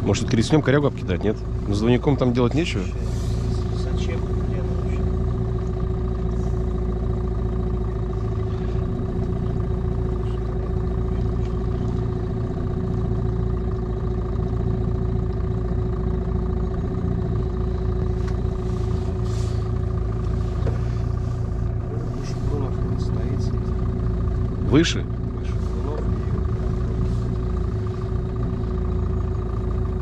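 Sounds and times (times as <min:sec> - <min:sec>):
outboard motor droning: 0:00.0 - 0:30.0.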